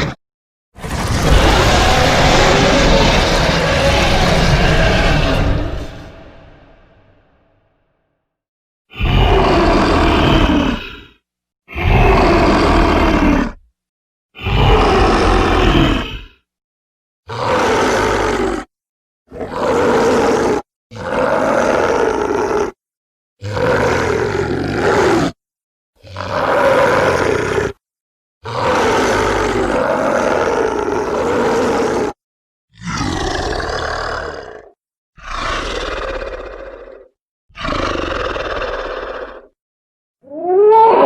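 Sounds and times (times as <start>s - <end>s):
dinosaur roars: 0.8s - 7.5s, 8.9s - 13.7s, 14.4s - 16.4s, 17.3s - 18.7s, 19.3s - 22.8s, 23.4s - 25.4s, 26.0s - 27.8s, 28.4s - 39.6s, 40.2s - 41.0s.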